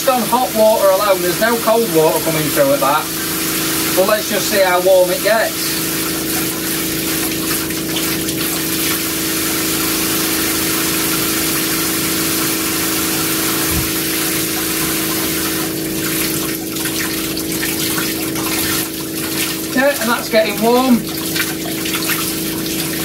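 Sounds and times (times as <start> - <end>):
shower water spraying: 0.0 - 23.0
water pump humming: 0.0 - 23.0.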